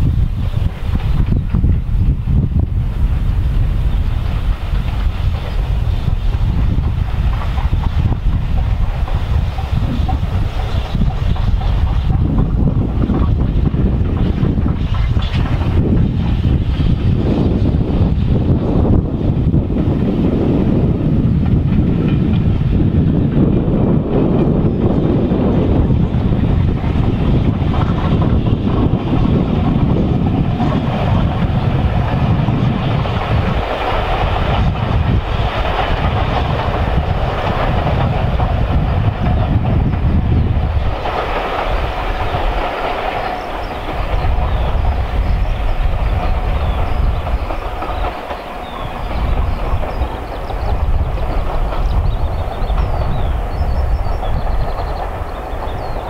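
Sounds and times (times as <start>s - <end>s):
distant train rumble: 0.0s - 56.0s
train wheels clattering: 0.0s - 56.0s.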